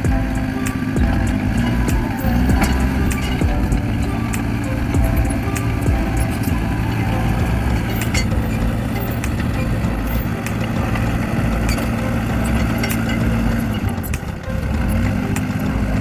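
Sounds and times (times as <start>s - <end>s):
bulldozer engine running: 0.0s - 16.0s
sharp metallic clicks: 0.0s - 16.0s.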